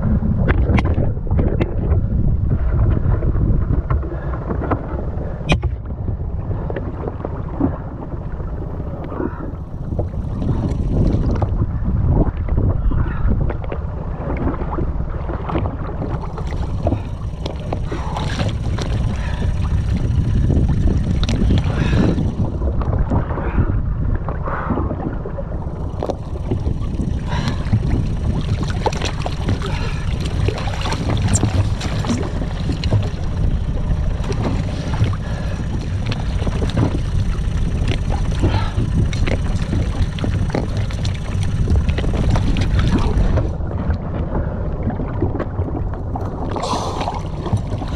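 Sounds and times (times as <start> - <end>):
water splashing against boat: 0.0 - 47.9
wind rumble on microphone: 0.0 - 47.9.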